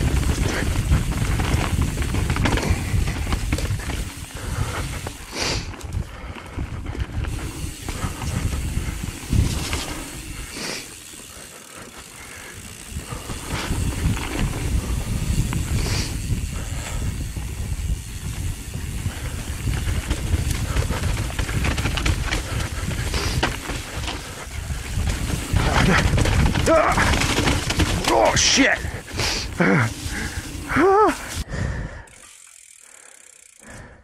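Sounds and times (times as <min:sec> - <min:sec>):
wind rumbling on microphone: 0:00.0 - 0:10.6, 0:12.2 - 0:32.1
bike chain and frame rattling: 0:00.0 - 0:34.0
bike rolling on dirt trail: 0:00.0 - 0:34.0.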